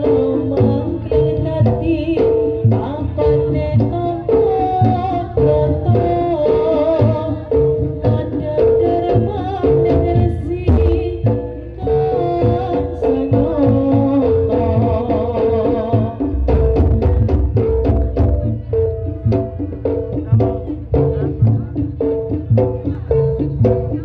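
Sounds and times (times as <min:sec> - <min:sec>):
drums beating: 0:00.0 - 0:24.0.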